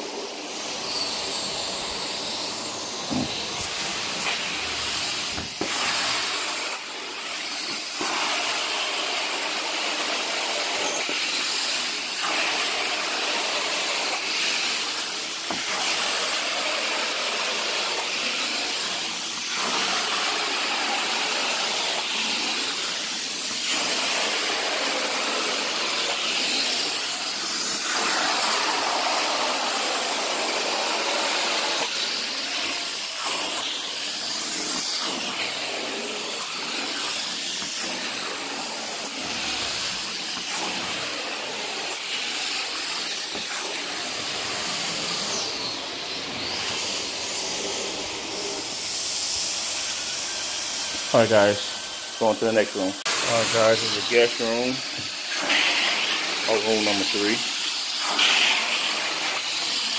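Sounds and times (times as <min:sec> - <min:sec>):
carpet cleaner vacuum hissing: 0:00.0 - 0:59.9.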